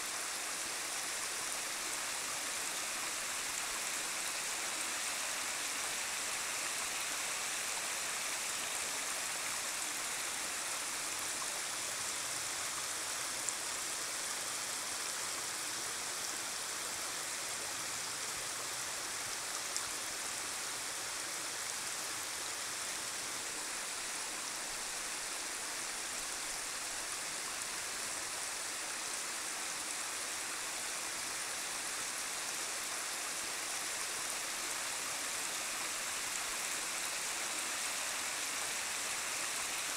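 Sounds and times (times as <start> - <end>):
creek running over rock: 0.0 - 39.9.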